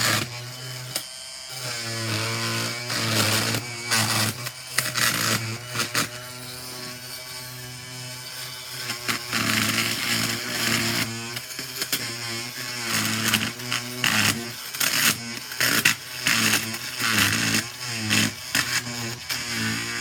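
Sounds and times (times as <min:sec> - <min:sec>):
oscillating tool cutting fabric: 0:00.0 - 0:20.0.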